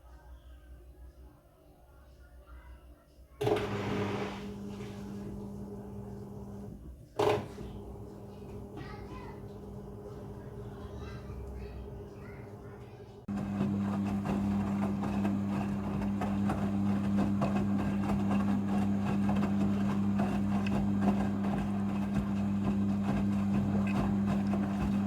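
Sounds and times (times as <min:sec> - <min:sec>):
washing machine motor hum: 0:03.4 - 0:25.0.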